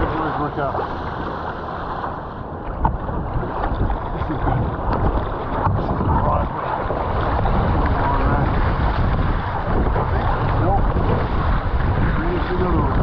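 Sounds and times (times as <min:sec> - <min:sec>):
paddle blades dipping: 0:00.0 - 0:13.0
water rushing along a hull: 0:00.0 - 0:13.0
wind buffeting microphone: 0:00.0 - 0:13.0.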